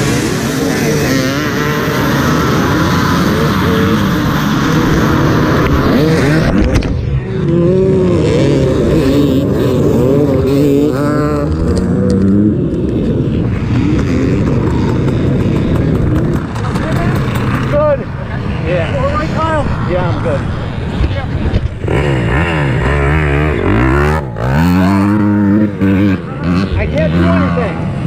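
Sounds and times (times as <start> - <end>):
off-road motorcycle engine revving: 0.0 - 28.0.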